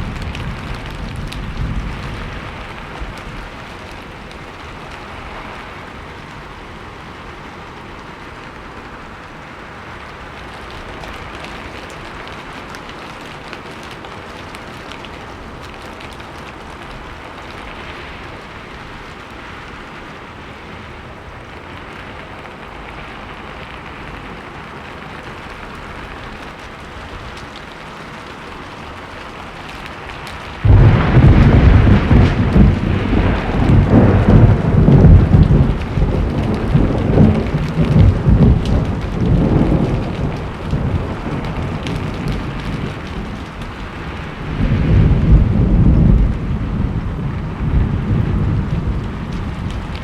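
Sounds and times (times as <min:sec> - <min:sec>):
thunder crack and rumble: 0:00.0 - 0:08.8, 0:10.1 - 0:50.0
steady rain falling: 0:00.0 - 0:50.0.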